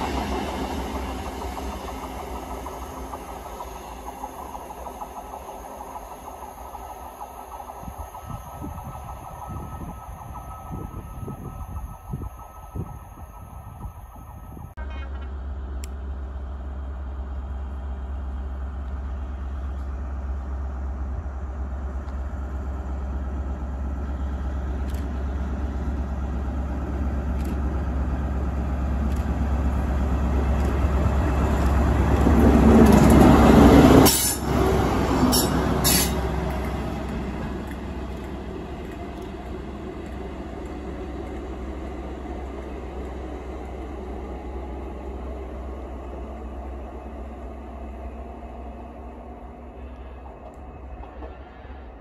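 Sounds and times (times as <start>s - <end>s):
diesel locomotive engine: 0.0s - 52.0s.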